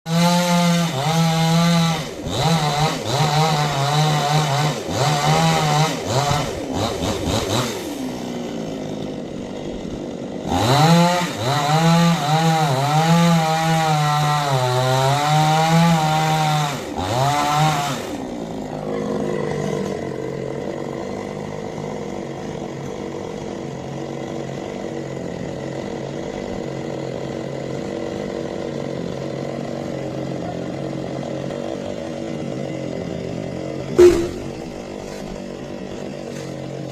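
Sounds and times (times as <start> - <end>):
chainsaw engine revving: 0.1 - 36.9.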